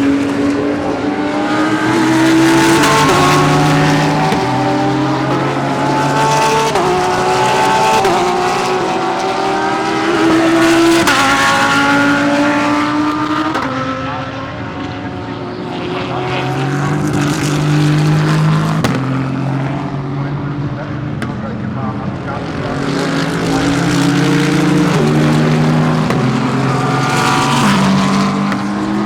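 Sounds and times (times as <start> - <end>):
race car engines at full throttle: 0.0 - 29.0.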